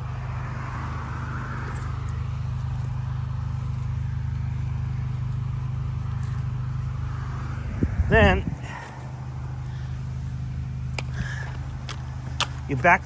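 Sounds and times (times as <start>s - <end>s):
pressure washer engine running: 0.0s - 8.0s, 8.6s - 13.0s.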